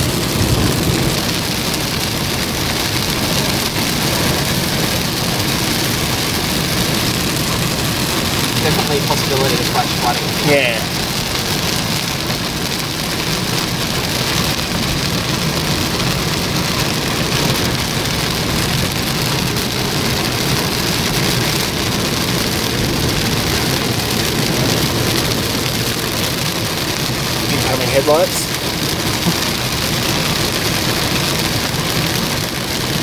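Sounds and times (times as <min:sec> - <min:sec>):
heavy rain on car: 0:00.0 - 0:33.0
tyres on wet road: 0:00.0 - 0:33.0.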